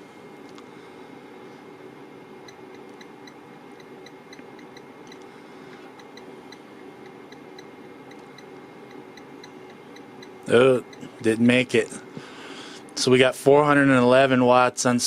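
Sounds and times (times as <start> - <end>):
faint constant hum tone: 0.0 - 15.0.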